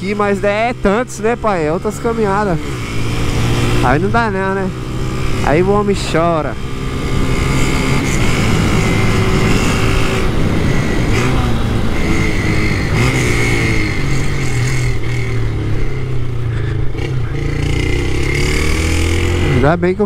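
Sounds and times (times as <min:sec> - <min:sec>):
moped engine revving: 0:00.0 - 0:20.0.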